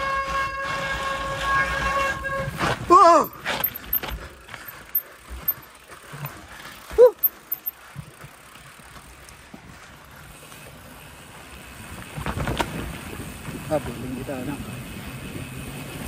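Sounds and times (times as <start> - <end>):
bike tyres on dirt trail: 0.0 - 16.0.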